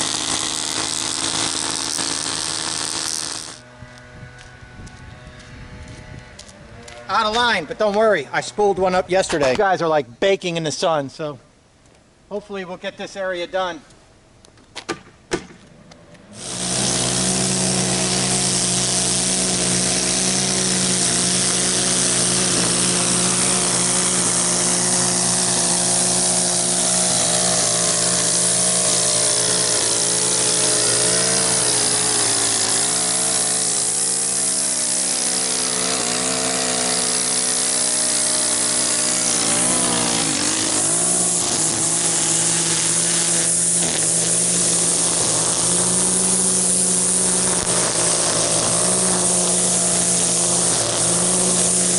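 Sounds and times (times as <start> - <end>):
string trimmer cutting grass: 0.0 - 9.7, 16.0 - 51.9.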